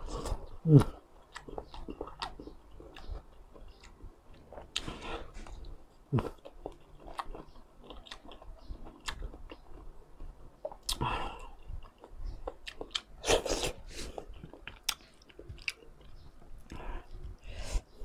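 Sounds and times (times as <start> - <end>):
chewing crunchy food: 0.0 - 17.4.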